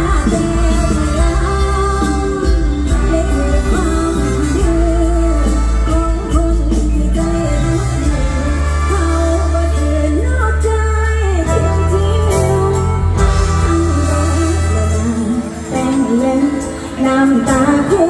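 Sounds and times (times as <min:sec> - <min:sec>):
live band music over a pa: 0:00.0 - 0:18.0
person singing: 0:00.0 - 0:18.0.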